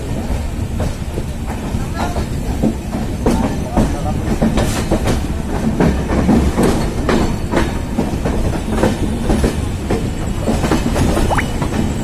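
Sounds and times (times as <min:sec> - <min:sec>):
train wheels clattering over rail joints: 0:00.0 - 0:11.0
train rumble and rushing air: 0:00.0 - 0:12.0.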